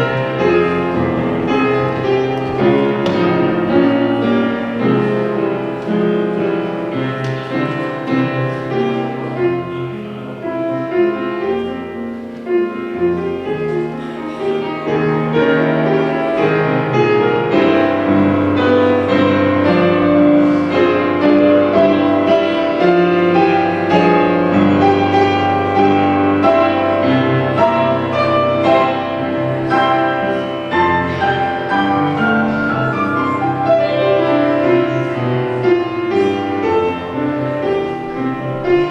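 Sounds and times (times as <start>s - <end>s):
church prelude on keyboard: 0.0s - 38.9s.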